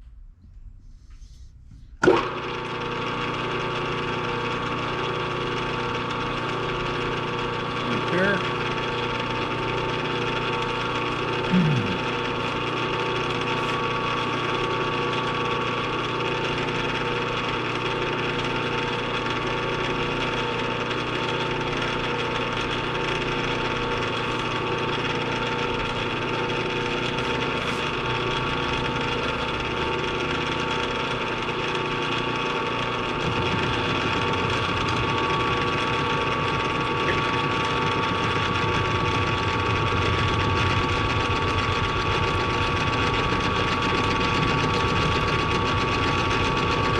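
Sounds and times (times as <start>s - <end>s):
milling machine whine: 2.0s - 46.9s.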